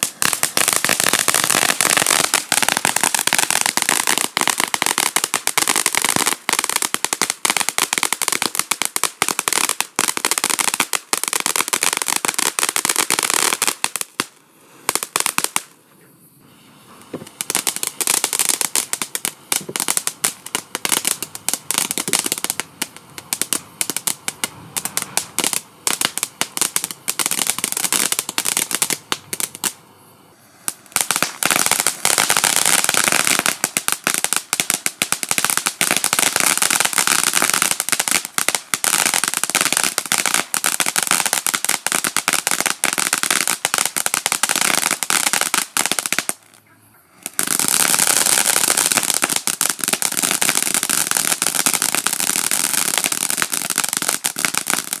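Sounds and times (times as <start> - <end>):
firework fountain crackling: 0.0 - 55.0.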